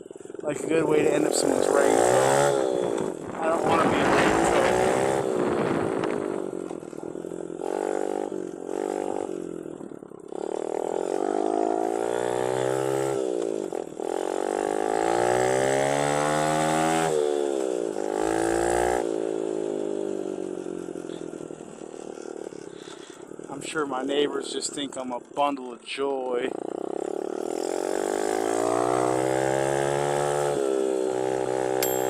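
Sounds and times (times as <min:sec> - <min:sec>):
dirt bike engine revving: 0:00.2 - 0:23.2, 0:26.5 - 0:32.0.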